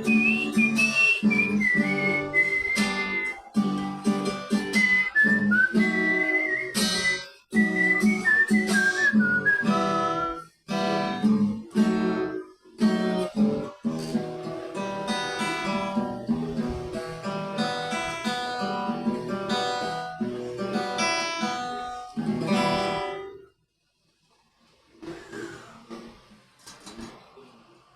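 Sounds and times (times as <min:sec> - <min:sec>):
acoustic guitar strumming chords: 0:00.0 - 0:23.4.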